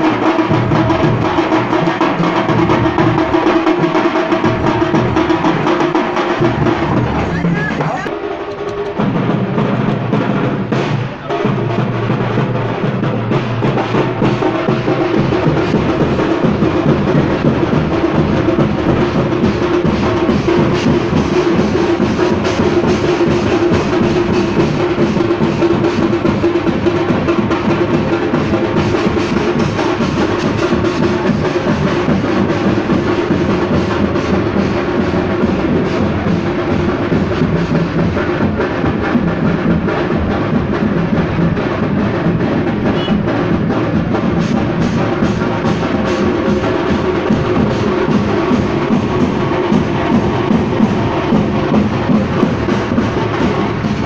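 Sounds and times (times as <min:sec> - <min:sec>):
rapid drum roll: 0:00.0 - 0:54.0.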